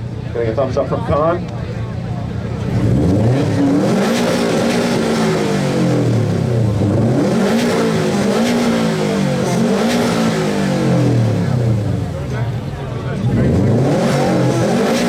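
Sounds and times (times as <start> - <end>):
car engine revving: 1.0 - 15.0.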